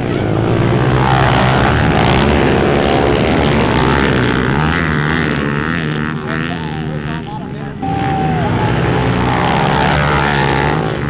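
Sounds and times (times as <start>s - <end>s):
dirt bike engine revving: 0.3s - 6.8s, 7.8s - 11.0s.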